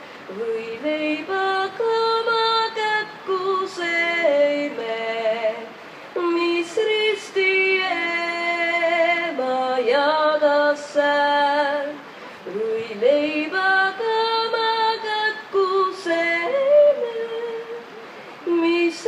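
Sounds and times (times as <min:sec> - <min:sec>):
woman singing unaccompanied: 0:00.2 - 0:19.0.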